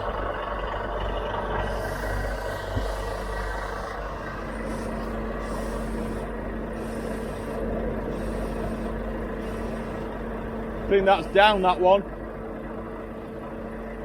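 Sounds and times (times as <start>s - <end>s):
diesel truck engine humming: 0.0s - 14.0s.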